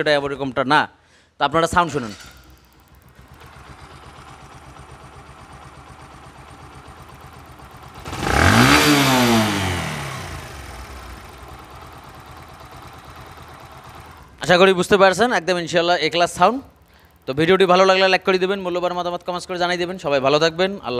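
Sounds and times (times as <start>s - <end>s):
motorcycle engine idling and revving: 1.8s - 20.9s.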